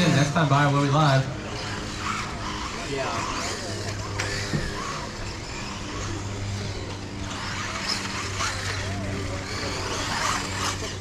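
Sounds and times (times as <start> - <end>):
radio-controlled cars on dirt: 0.0 - 11.0.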